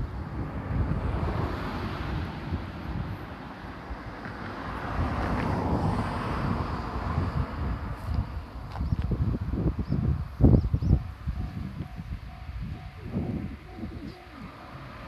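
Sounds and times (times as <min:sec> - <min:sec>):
diesel train rumbling: 0:00.0 - 0:15.0
wind buffeting microphone: 0:00.0 - 0:15.0.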